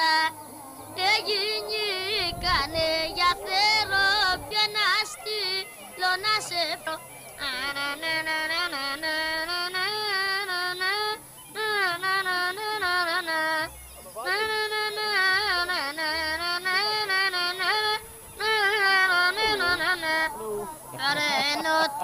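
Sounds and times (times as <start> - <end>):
high voice singing folk song: 0.0 - 22.0.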